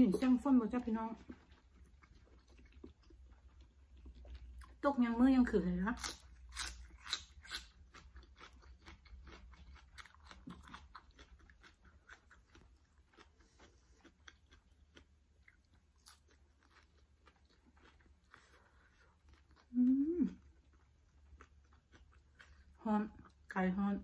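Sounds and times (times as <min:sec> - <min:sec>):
chewing crunchy food: 0:00.1 - 0:04.8, 0:06.0 - 0:23.6.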